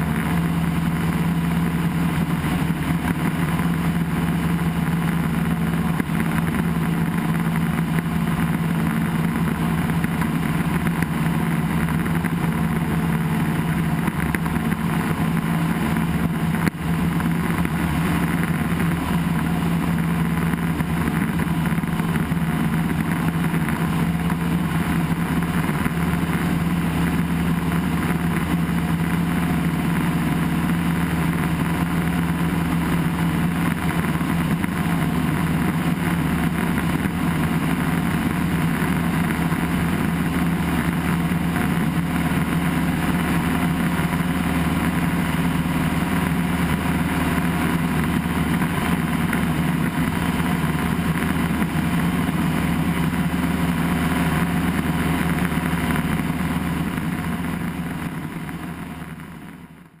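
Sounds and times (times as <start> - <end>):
light aircraft engine droning: 0.0 - 60.0.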